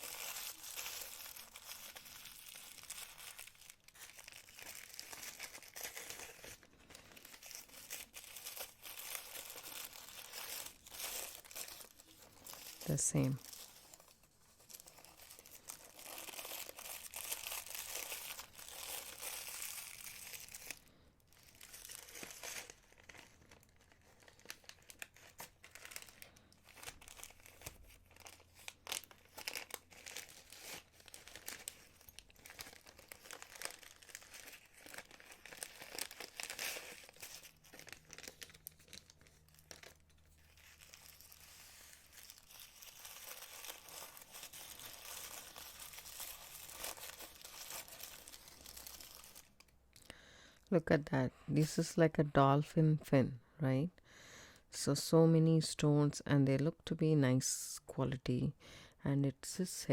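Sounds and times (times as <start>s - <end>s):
packaging crinkling and rustling: 0.0s - 50.1s.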